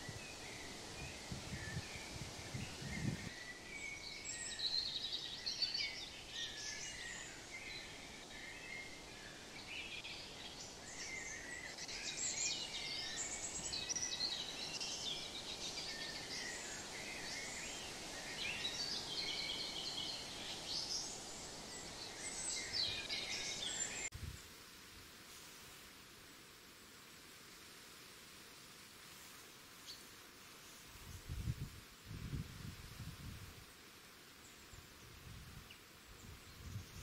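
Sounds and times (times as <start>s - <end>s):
songbirds singing and chirping: 0.0s - 24.5s, 29.8s - 37.0s
outdoor background hiss: 0.0s - 37.0s.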